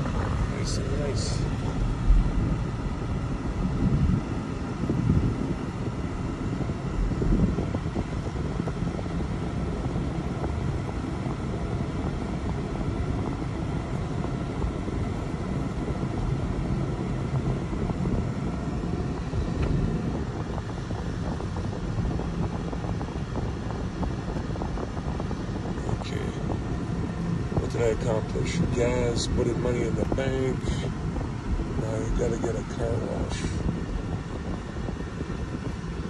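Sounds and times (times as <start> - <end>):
car tyres and engine rumble: 0.0 - 36.0.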